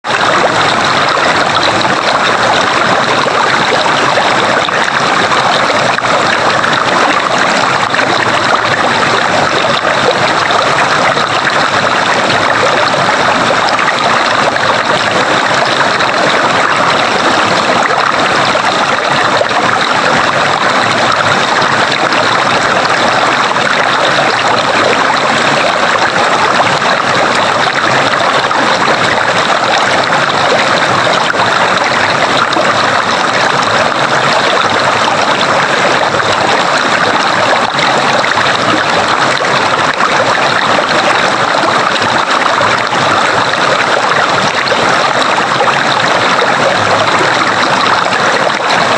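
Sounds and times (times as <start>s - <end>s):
stream water flowing: 0.1s - 48.9s.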